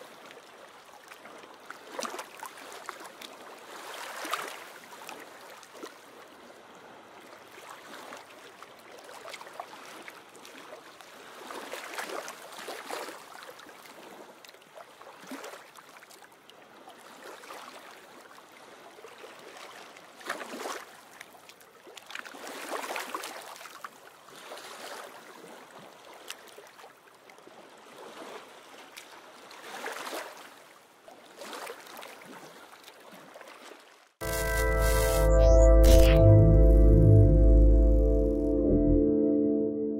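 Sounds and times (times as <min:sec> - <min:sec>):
small waves lapping: 0:00.0 - 0:34.1.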